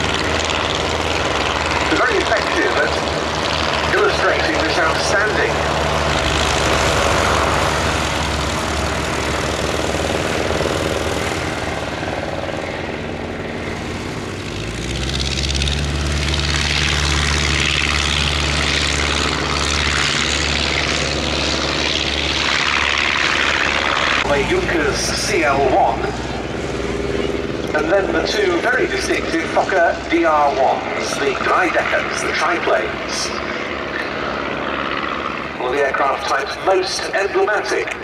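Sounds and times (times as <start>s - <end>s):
propeller plane engines: 0.0s - 38.0s.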